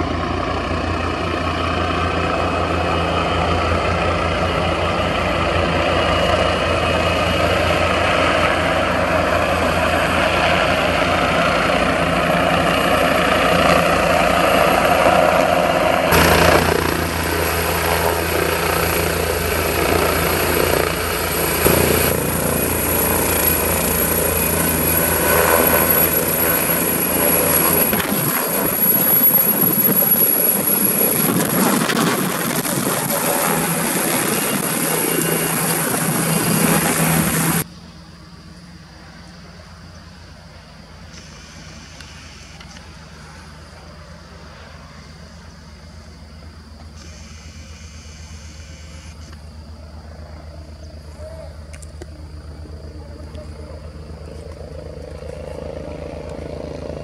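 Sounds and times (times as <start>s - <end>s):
helicopter rotor beat: 0.0s - 38.6s, 39.7s - 57.0s
turbine whine: 0.0s - 57.0s.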